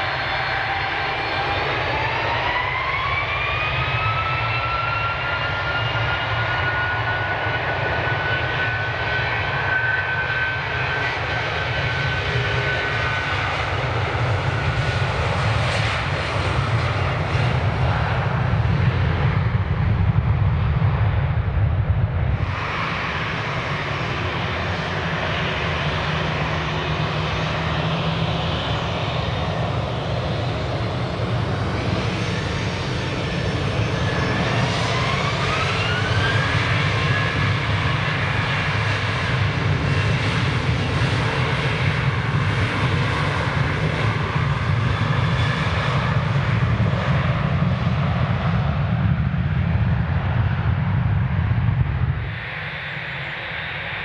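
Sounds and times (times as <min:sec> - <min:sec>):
jet engines rumbling: 0:00.0 - 0:54.0
rising jet engine whine: 0:00.0 - 0:54.0.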